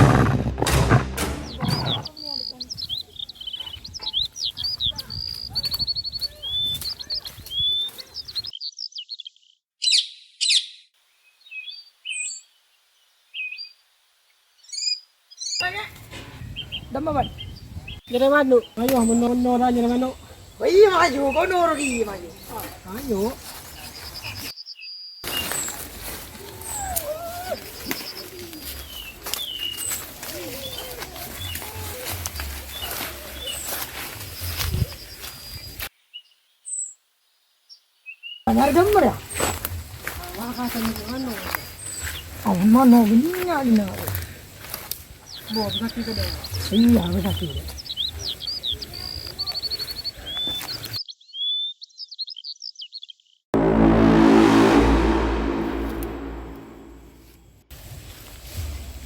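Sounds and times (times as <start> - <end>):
songbirds chirping and trilling: 1.4 - 53.5.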